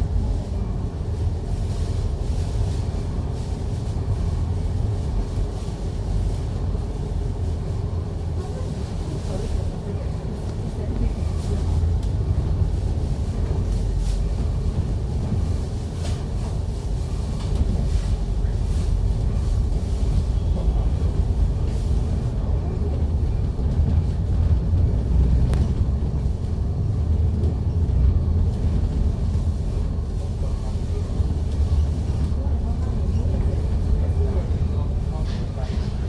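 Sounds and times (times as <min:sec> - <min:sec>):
bus engine rumbling: 0:00.0 - 0:36.0.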